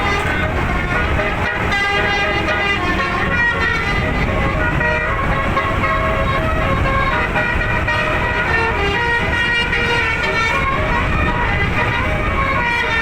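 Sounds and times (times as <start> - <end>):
steady low rumble: 0.0 - 12.7
musical air horn tune: 0.0 - 13.0.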